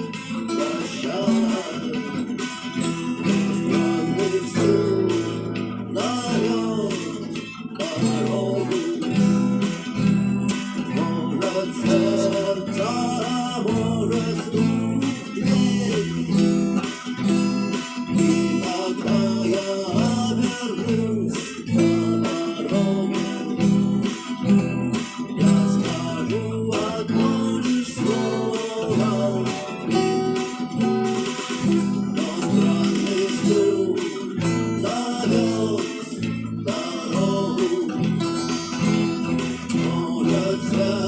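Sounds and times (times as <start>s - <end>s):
strummed guitar chords: 0.0s - 41.0s.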